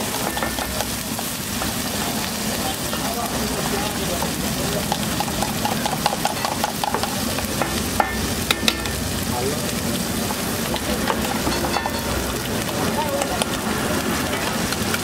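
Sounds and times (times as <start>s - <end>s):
spatula scraping and stirring: 0.0s - 2.2s, 2.8s - 9.1s, 10.0s - 15.0s
masala sizzling on a griddle: 0.0s - 15.0s.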